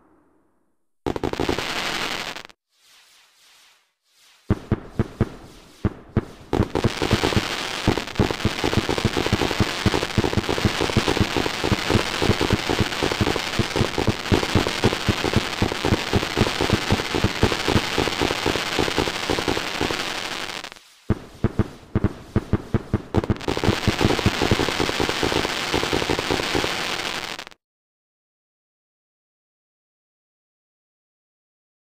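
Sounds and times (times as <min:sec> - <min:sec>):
fireworks popping and crackling: 0:01.0 - 0:27.6.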